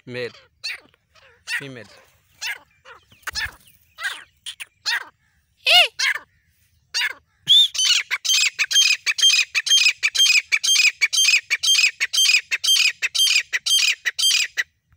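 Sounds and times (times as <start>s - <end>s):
bird calling shrill notes: 0.0s - 14.6s.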